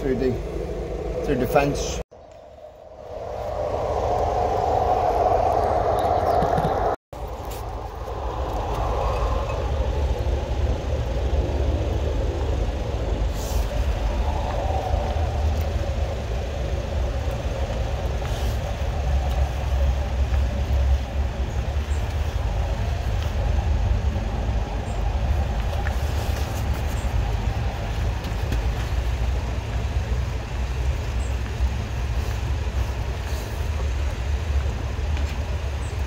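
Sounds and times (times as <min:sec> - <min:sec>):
engine running with low rumble: 0:00.0 - 0:36.0.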